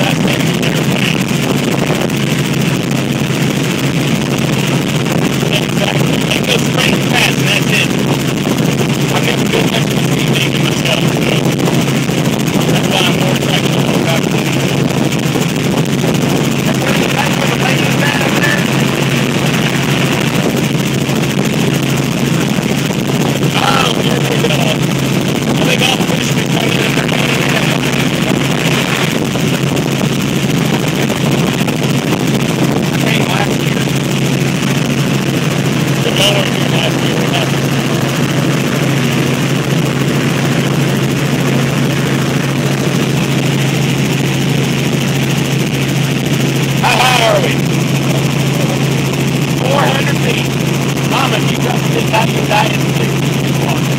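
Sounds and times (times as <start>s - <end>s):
helicopter engine and rotor drone: 0.0s - 53.9s.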